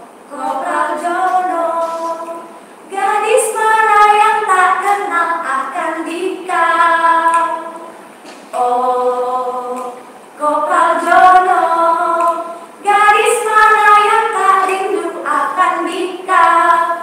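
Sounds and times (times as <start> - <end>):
women singing unaccompanied: 0.2 - 17.0.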